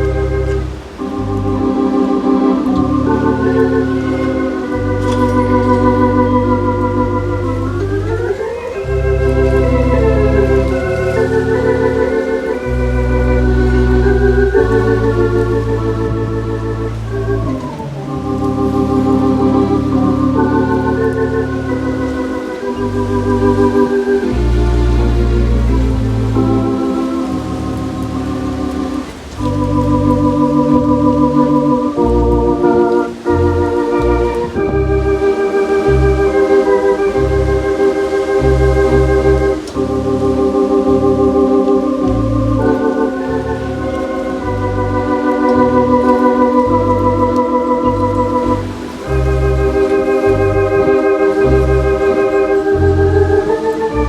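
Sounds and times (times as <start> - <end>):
deep organ pedal bass notes: 0.0 - 54.0
organ playing sustained chords: 0.0 - 54.0.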